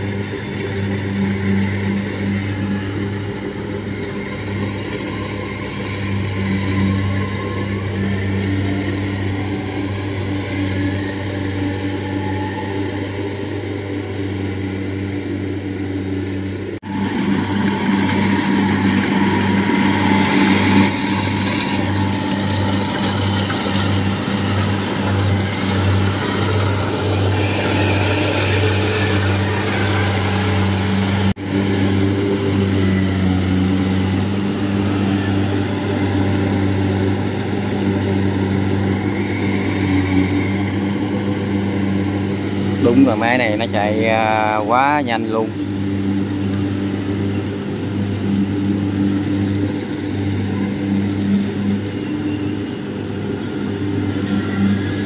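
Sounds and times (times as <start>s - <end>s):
harvester diesel engine humming: 0.0s - 55.0s.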